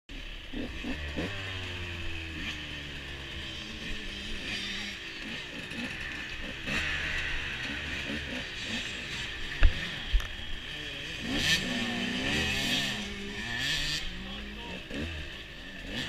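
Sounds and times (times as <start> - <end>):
dirt bike engine idling: 0.1 - 16.0
dirt bike engines revving: 0.1 - 16.0.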